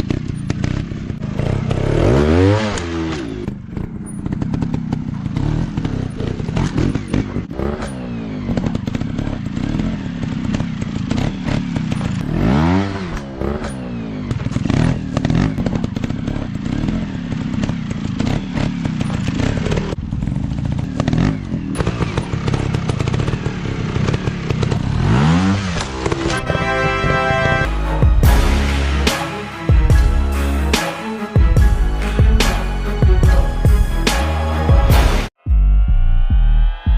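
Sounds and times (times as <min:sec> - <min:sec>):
dirt bike engines revving: 0:00.0 - 0:35.3.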